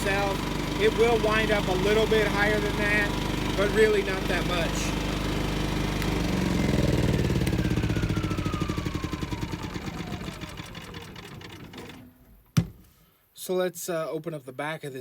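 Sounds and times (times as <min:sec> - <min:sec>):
generator idling and coasting down: 0:00.0 - 0:12.7.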